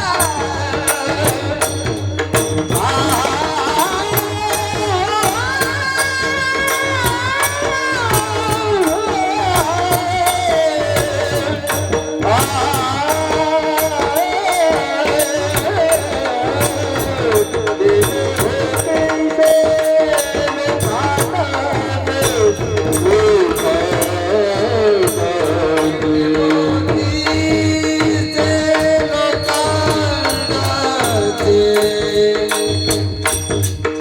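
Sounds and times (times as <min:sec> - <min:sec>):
drum: 0:00.0 - 0:34.0
person singing devotional melody: 0:00.0 - 0:34.0.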